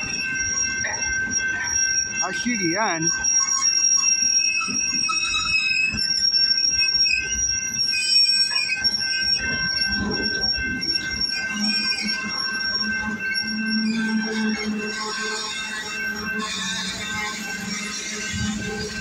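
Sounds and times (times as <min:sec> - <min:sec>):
freight train rumbling: 0:00.0 - 0:19.0
train wheels squealing on rail: 0:00.0 - 0:19.0.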